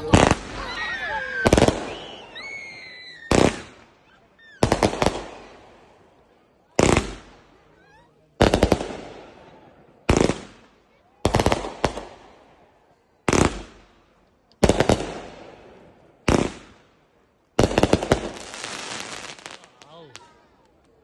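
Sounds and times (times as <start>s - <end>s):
fireworks bangs: 0.0s - 6.1s, 6.7s - 7.6s, 8.4s - 12.6s, 13.2s - 16.9s, 17.6s - 20.3s.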